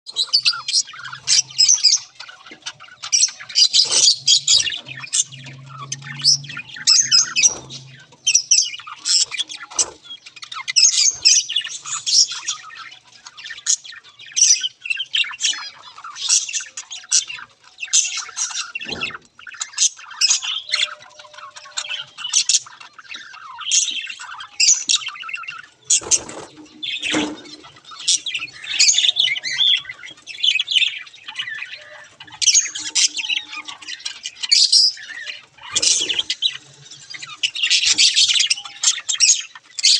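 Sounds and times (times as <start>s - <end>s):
budgerigars chattering and squawking: 0.1s - 39.9s.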